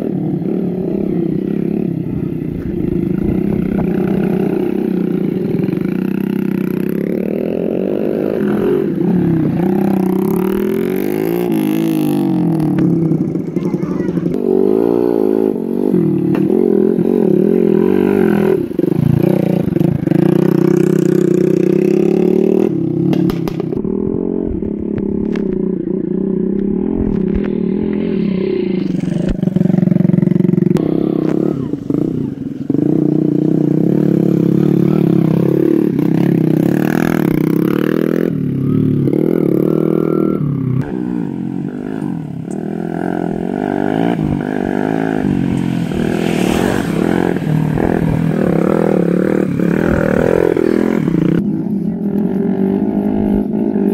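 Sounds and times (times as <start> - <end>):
motorbike engine running: 0.0 - 53.9.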